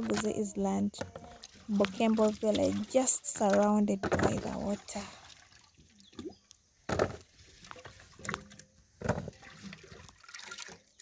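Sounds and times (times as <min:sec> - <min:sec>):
water sloshing: 0:00.0 - 0:11.0.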